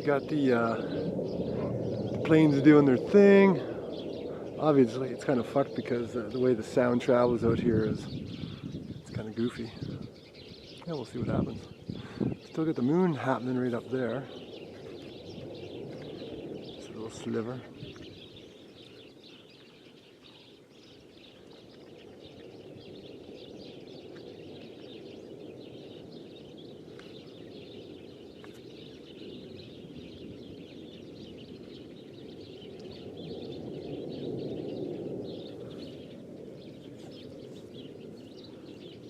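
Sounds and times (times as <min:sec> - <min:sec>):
birds chirping: 0:00.0 - 0:39.0
distant jet aircraft rumble: 0:00.0 - 0:39.0.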